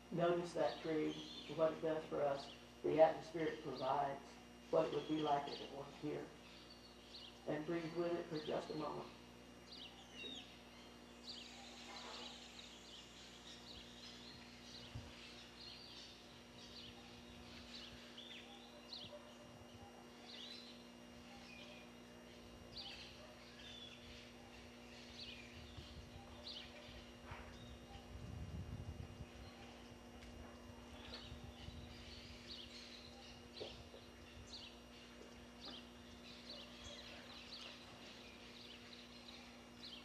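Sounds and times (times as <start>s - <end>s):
birds chirping: 0.0s - 40.0s
low electrical hum: 0.0s - 40.0s.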